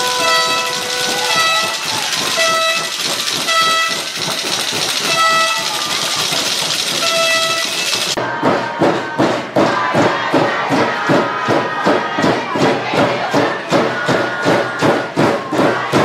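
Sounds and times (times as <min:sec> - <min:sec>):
music with heavy steady beat: 0:00.0 - 0:16.0.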